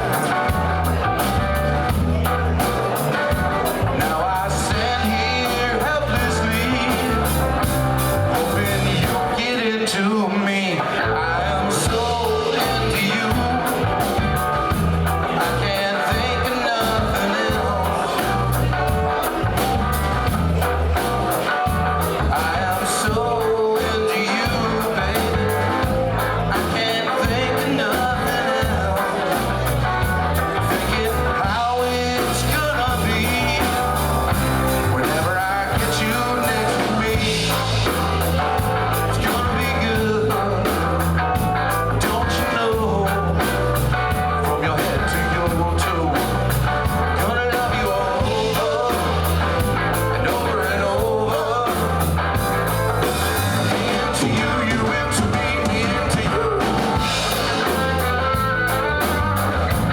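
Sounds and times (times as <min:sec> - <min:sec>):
rock song on a radio: 0:00.0 - 0:59.9.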